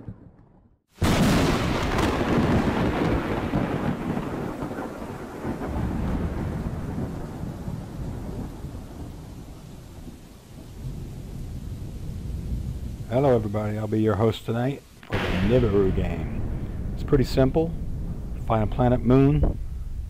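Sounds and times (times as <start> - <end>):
thunderclap: 0.0 - 13.6, 15.0 - 20.0
rolling thunder rumble: 0.0 - 14.2, 15.0 - 20.0.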